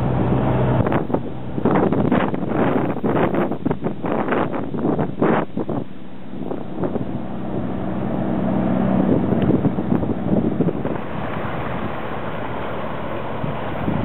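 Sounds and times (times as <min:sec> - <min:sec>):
ferry engine humming: 0:00.0 - 0:14.0
wind buffeting microphone: 0:00.0 - 0:14.0.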